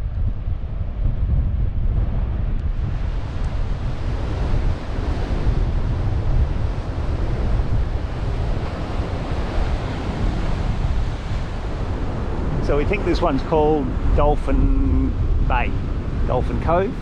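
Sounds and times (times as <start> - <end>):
wind buffeting microphone: 0.0 - 17.0
ocean surf breaking: 2.7 - 17.0.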